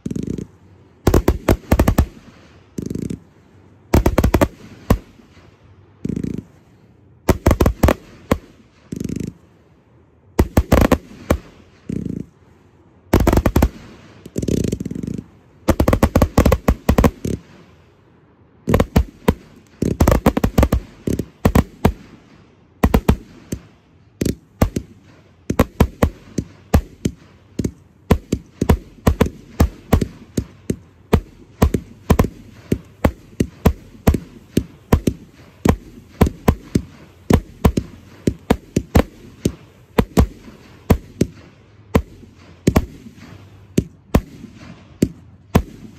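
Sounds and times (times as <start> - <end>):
fireworks bangs: 0.0 - 9.6, 10.2 - 12.4, 13.0 - 45.9.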